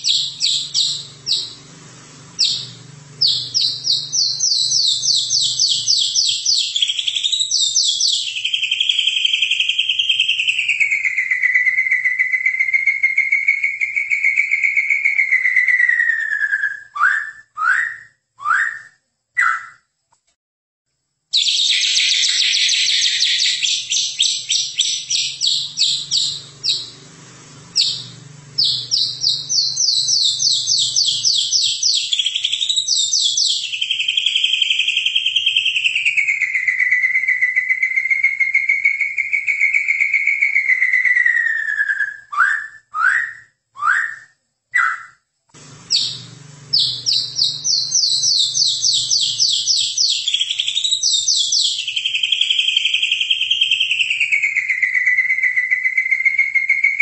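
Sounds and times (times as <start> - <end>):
songbird singing trills and whistles: 0.0 - 1.7, 2.3 - 19.9, 21.3 - 27.0, 27.8 - 45.2, 45.9 - 57.0.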